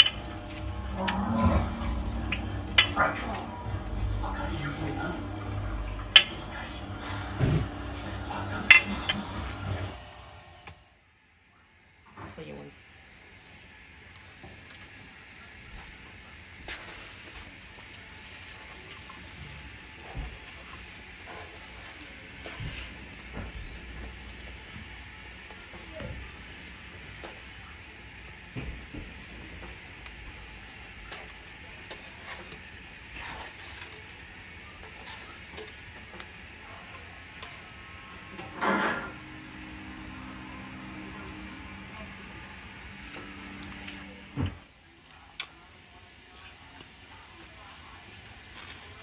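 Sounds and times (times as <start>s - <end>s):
pan juices sizzling: 0.0s - 10.8s, 14.6s - 44.4s.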